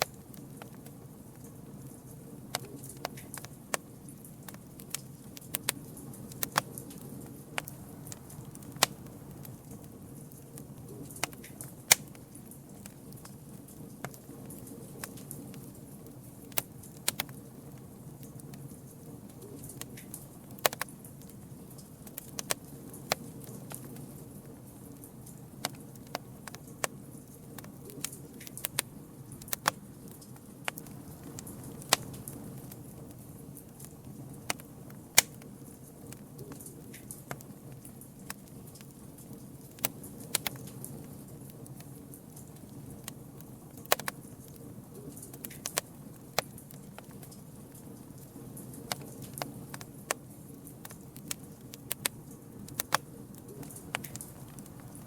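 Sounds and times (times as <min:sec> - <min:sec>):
campfire crackling and popping: 0:00.0 - 0:55.0
low rumble of burning fire: 0:00.0 - 0:55.0.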